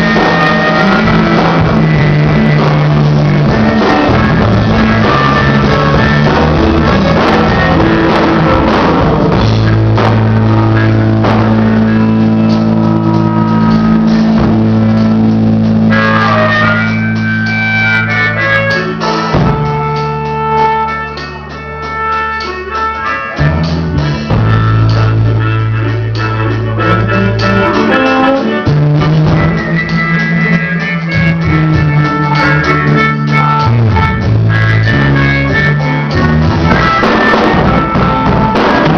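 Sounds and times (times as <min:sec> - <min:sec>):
harmonica: 0:00.0 - 0:14.4, 0:15.8 - 0:38.9
rock band playing: 0:00.0 - 0:38.9.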